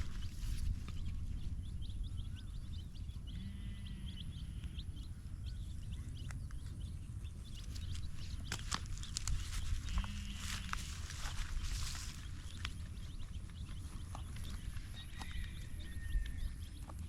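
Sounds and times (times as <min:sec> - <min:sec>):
low background rumble: 0:00.0 - 0:17.0
rabbits munching grass: 0:00.0 - 0:17.0.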